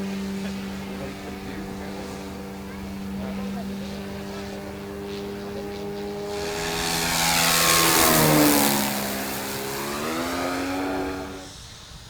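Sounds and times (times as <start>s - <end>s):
model plane motor humming: 0.0s - 12.0s.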